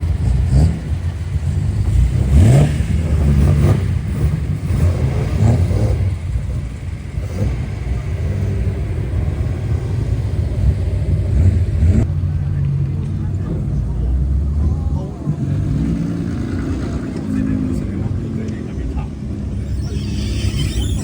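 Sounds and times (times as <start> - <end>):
car engine idling with throttle blips: 0.0 - 21.0.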